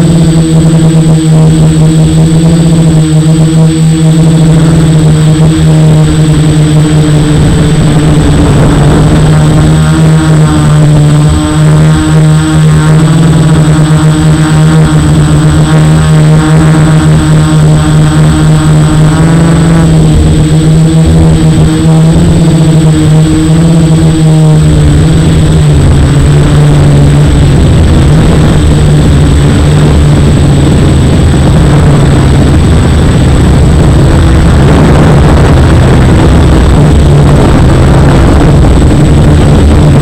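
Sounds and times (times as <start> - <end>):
quadcopter propellers buzzing: 0.0 - 40.0.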